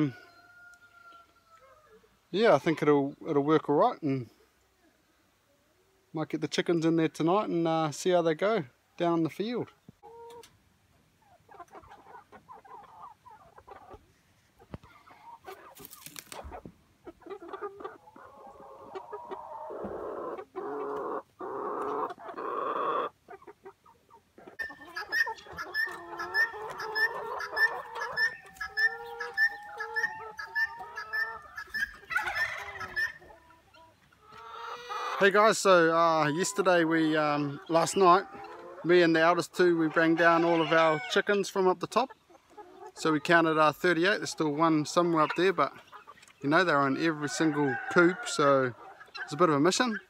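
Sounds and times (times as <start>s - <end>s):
hens clucking: 5.7s - 50.0s.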